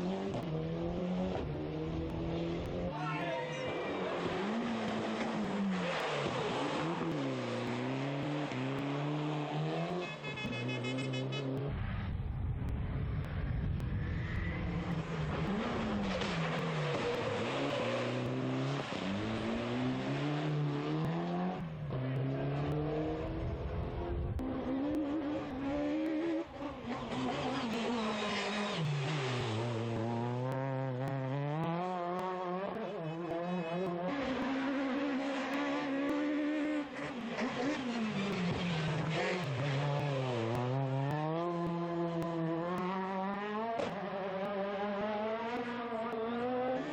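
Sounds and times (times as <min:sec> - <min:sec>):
rally car engines revving: 0:00.0 - 0:46.9
tyre and road noise: 0:00.0 - 0:46.9.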